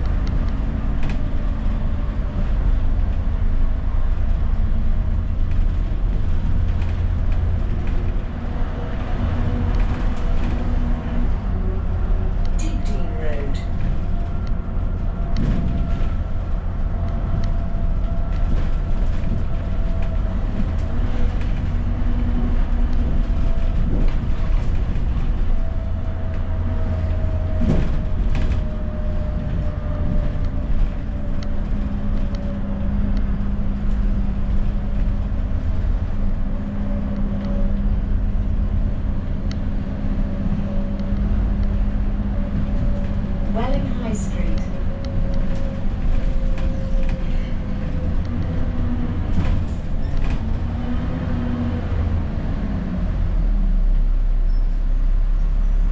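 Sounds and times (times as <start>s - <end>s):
knocks and rattles from bus body: 0.0s - 52.7s
bus engine and road rumble: 0.0s - 55.9s.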